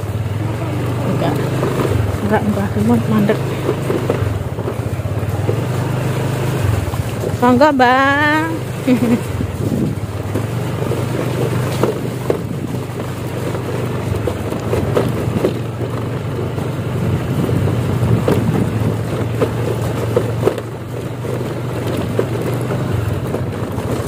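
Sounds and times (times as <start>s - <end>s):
knocks and rattles from bumps: 0.0s - 24.0s
motorcycle engine running: 0.0s - 24.0s.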